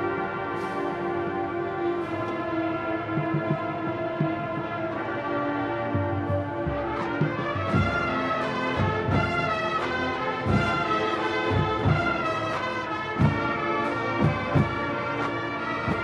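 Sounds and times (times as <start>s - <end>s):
brass chords: 0.0s - 16.0s
drumline and bass drum: 2.0s - 16.0s.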